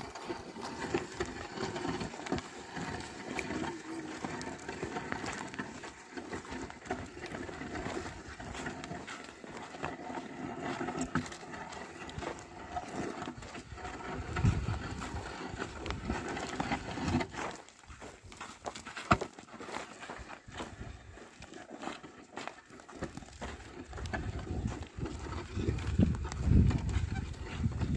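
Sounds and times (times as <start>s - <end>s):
hoof steps: 0.0s - 27.9s.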